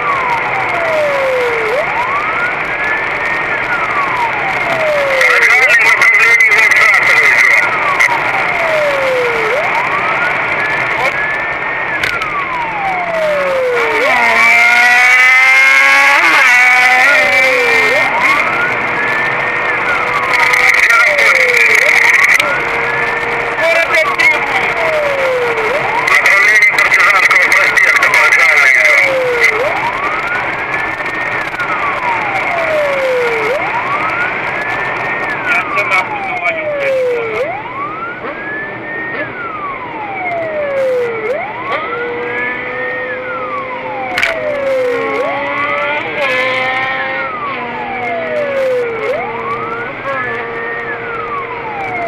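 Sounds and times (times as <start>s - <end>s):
engine-like drone: 0.0s - 52.0s
police siren wailing: 0.0s - 52.0s
road noise: 0.0s - 52.0s.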